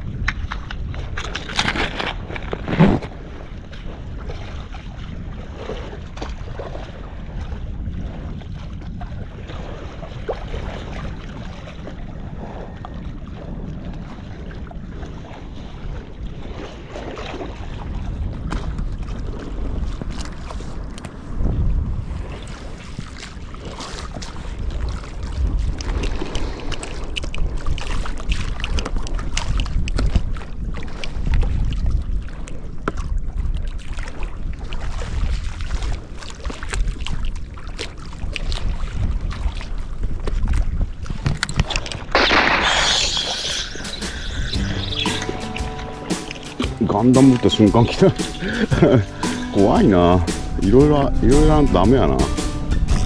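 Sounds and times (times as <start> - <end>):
choppy water lapping: 0.0 - 53.0
wind buffeting microphone: 0.0 - 53.0.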